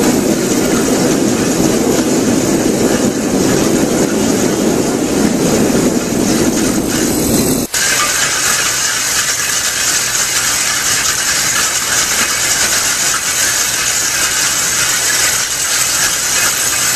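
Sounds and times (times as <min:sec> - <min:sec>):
drum cutter grinding concrete: 0:00.0 - 0:16.9.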